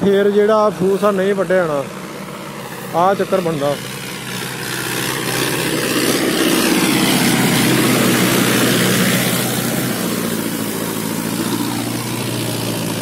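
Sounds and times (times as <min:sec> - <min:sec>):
tractor diesel engine: 0:00.0 - 0:13.0.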